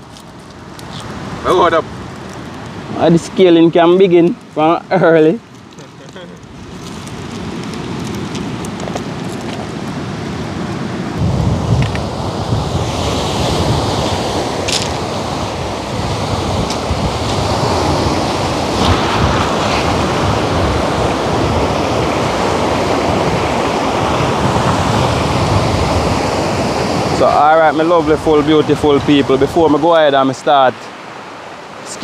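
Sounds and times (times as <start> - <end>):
wind buffeting microphone: 0.0 - 30.1
waves rushing: 0.0 - 32.0.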